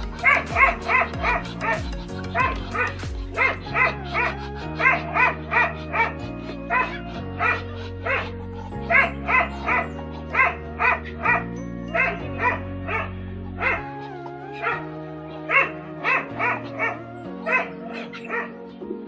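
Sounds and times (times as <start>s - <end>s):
background music: 0.0s - 19.0s
dog barking: 0.2s - 18.7s.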